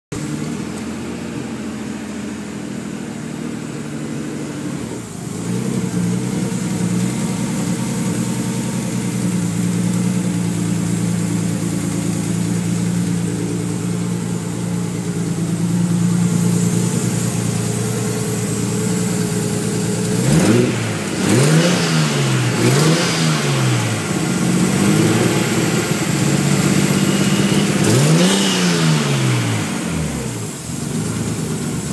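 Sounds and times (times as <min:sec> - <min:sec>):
car engine idling and revving: 0:00.1 - 0:31.9.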